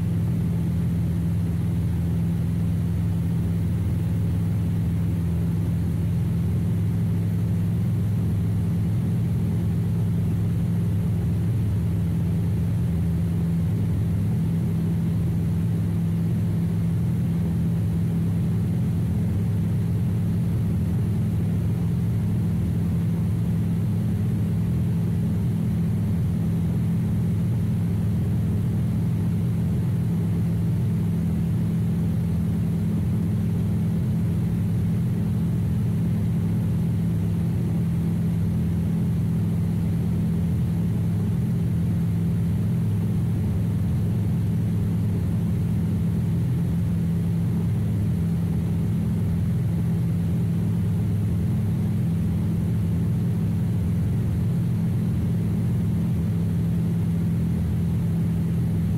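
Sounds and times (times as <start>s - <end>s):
airplane engine droning: 0.0s - 58.9s.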